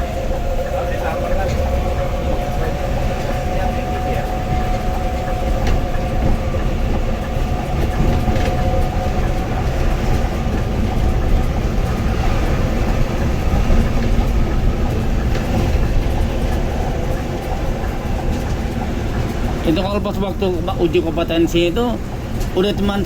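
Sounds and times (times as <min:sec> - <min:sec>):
bus engine and road noise: 0:00.0 - 0:23.0
light rattles and knocks: 0:00.1 - 0:23.0.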